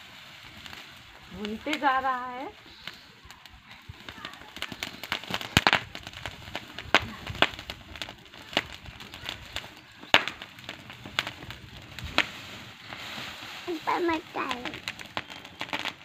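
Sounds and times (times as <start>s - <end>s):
straw fire crackling and popping: 0.0s - 16.0s.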